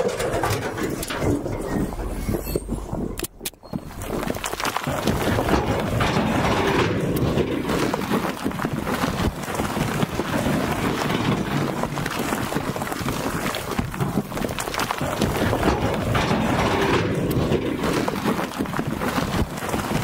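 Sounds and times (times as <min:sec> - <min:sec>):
stone clattering from dump truck: 0:00.0 - 0:02.8, 0:04.2 - 0:20.0
diesel machinery running: 0:00.0 - 0:19.3.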